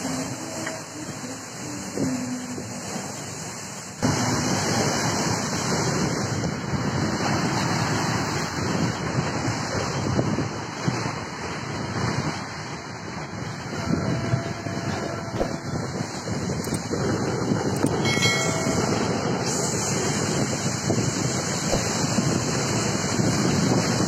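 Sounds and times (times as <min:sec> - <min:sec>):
heavy waves breaking: 0:00.0 - 0:24.0
wind gusting over microphone: 0:00.0 - 0:24.0.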